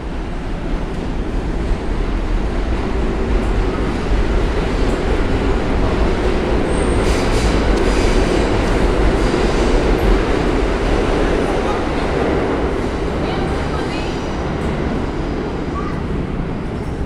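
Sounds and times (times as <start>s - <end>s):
subway train rail noise: 0.0s - 17.0s.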